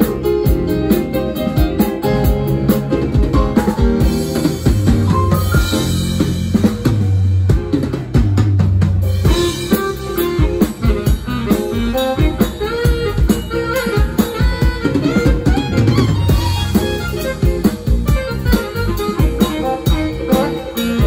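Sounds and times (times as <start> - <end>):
drum kit fills: 0.0 - 21.0
live band playing instrumental: 0.0 - 21.0.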